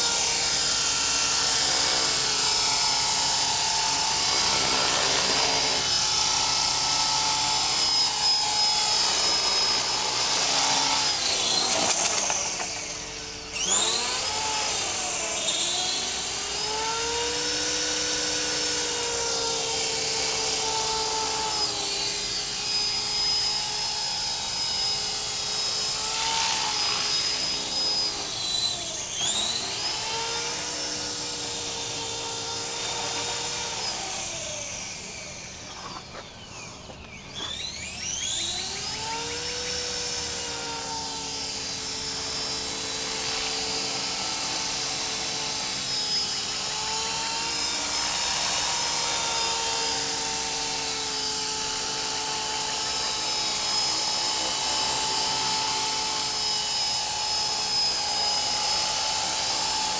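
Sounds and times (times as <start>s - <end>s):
rc helicopter motor whine: 0.0s - 59.9s.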